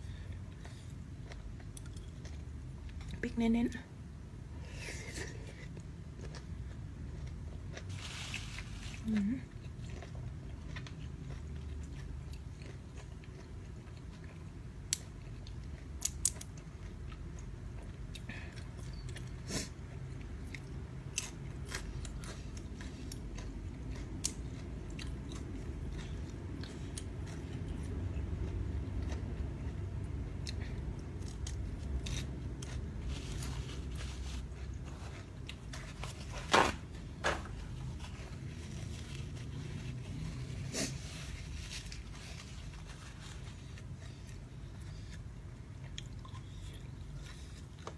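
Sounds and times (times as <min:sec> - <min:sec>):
person chewing food: 0:00.0 - 0:03.2, 0:04.6 - 0:47.9.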